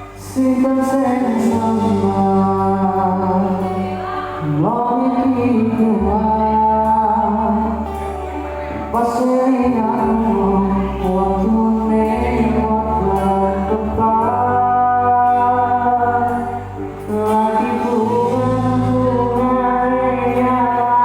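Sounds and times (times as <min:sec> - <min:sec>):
live band music: 0:00.0 - 0:21.0
person singing long notes: 0:00.0 - 0:21.0
steady bass notes: 0:00.0 - 0:21.0.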